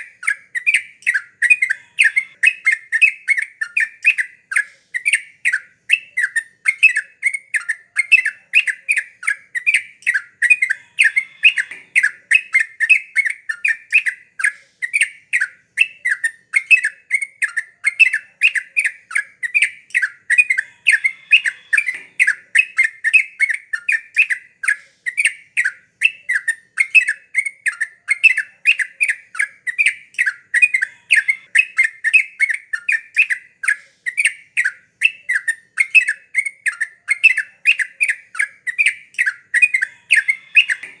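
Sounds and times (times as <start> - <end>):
bird chattering song: 0.0 - 41.0.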